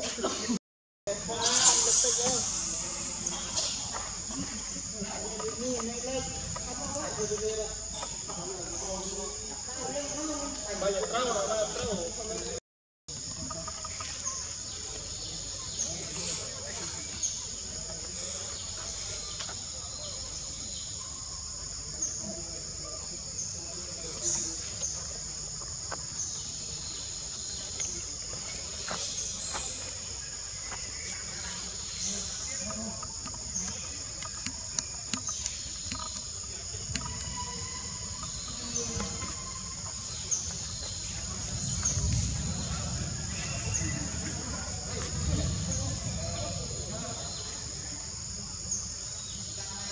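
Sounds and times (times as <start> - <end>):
forest insects chorus: 0.0 - 49.9
sharp insect chirp: 1.1 - 49.9.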